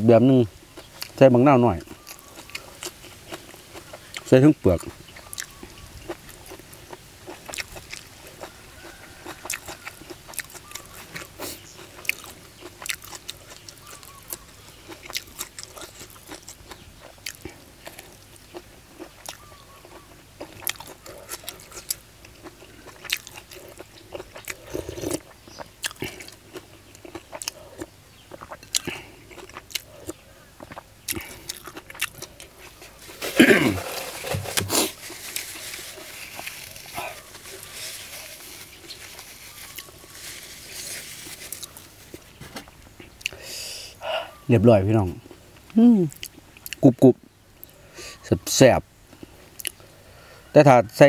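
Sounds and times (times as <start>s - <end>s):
crunchy chewing: 0.8s - 43.4s.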